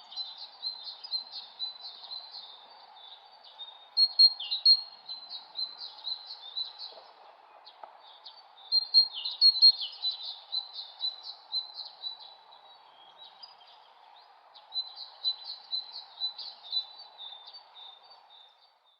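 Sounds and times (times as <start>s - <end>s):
songbirds chirping: 0.0s - 18.9s
steady background hiss: 0.0s - 18.9s.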